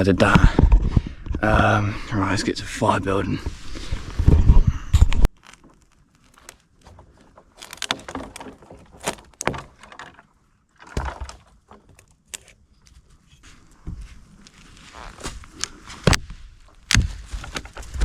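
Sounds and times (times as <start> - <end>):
rustling crackles and knocks: 3.4 - 18.0.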